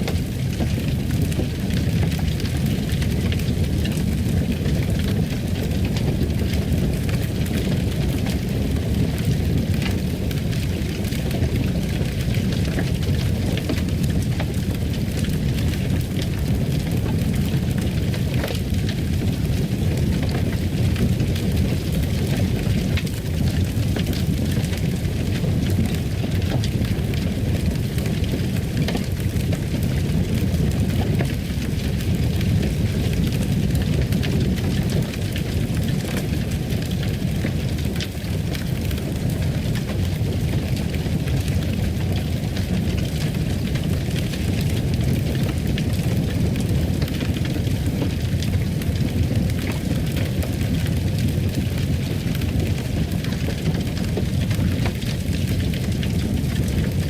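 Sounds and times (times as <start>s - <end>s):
faint fire crackles: 0.0s - 57.0s
fire burning in fireplace: 0.0s - 57.0s.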